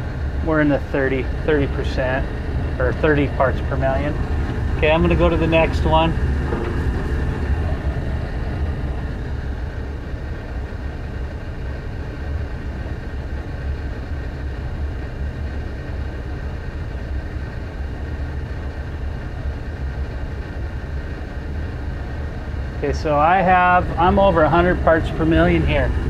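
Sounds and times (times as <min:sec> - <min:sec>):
faint constant whine: 0:00.0 - 0:26.0
gas furnace rumbling: 0:00.0 - 0:26.0.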